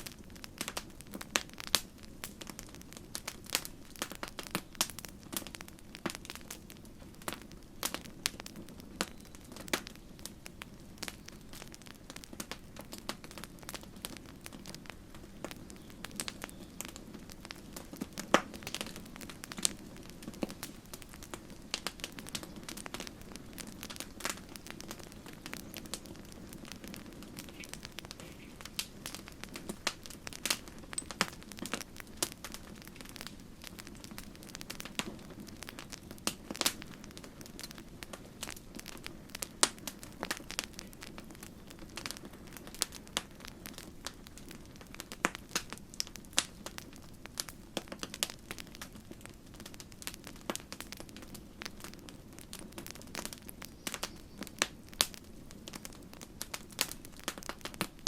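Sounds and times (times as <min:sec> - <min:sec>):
low roar of flames: 0:00.0 - 0:58.0
wood crackling and popping: 0:00.0 - 0:58.0.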